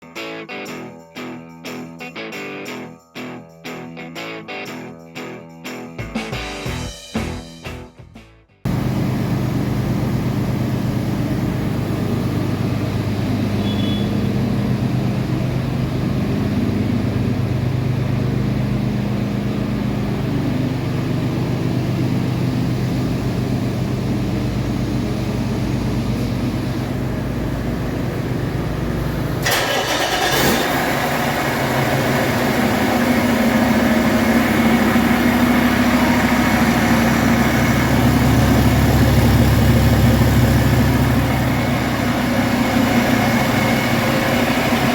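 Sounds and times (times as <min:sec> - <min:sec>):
diesel engine running: 0:08.7 - 0:44.9.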